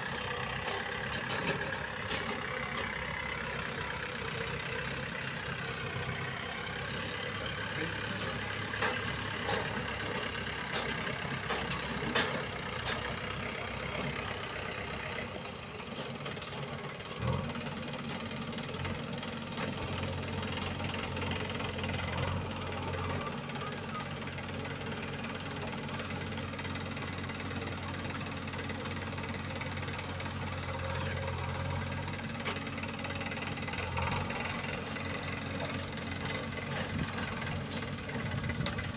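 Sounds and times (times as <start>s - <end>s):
heavy diesel machinery engines: 0.0s - 38.9s.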